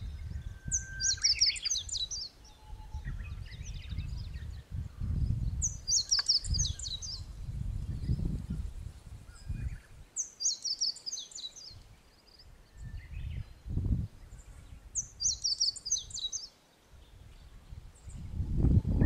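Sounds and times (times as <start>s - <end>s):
wind buffeting microphone: 0.0s - 10.1s, 11.6s - 16.4s, 17.0s - 19.0s
songbird singing: 0.0s - 19.0s.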